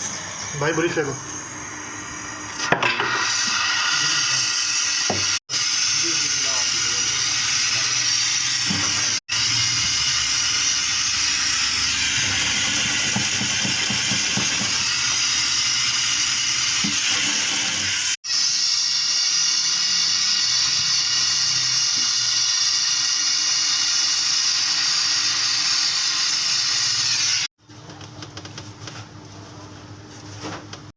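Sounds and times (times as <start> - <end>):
gas torch flame hissing: 0.0 - 27.5.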